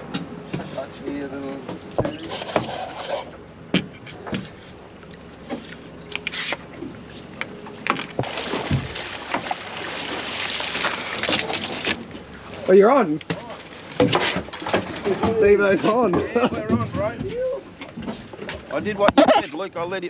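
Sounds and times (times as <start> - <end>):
knocks and clatter aboard boat: 0.0 - 20.0.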